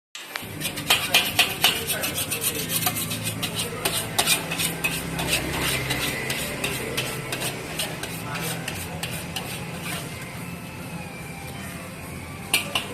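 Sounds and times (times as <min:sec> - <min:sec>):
metal spatula scraping a wok: 0:00.2 - 0:10.4, 0:12.5 - 0:12.9.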